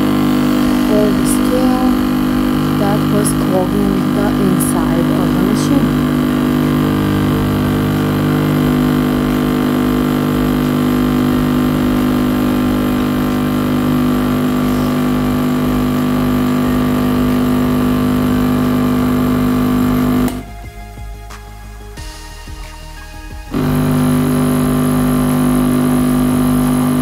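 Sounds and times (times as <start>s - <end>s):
capsule machine pump buzzing: 0.0s - 20.5s, 23.5s - 27.0s.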